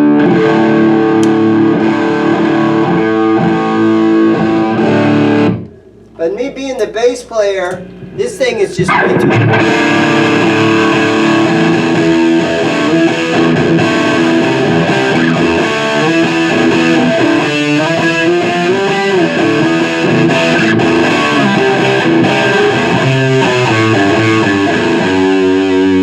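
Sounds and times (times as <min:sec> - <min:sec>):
distorted electric guitar: 0:00.0 - 0:06.2, 0:07.7 - 0:26.0.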